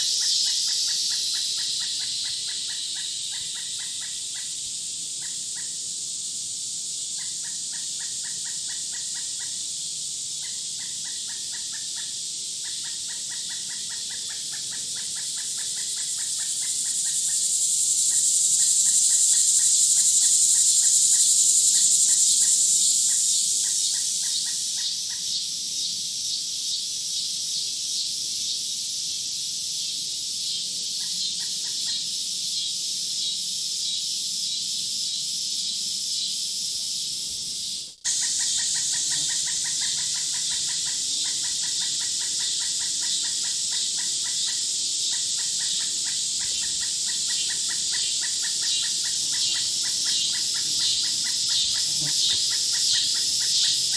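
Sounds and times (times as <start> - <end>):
insect chorus chirping: 0.0 - 53.9.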